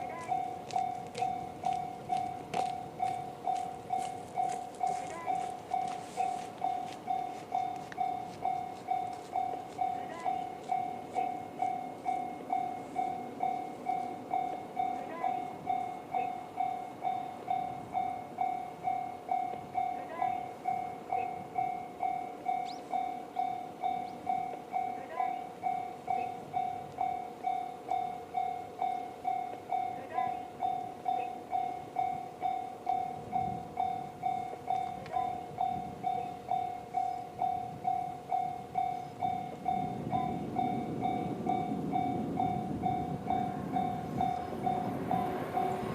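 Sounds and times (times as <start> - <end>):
level crossing alarm tone: 0.0 - 45.9.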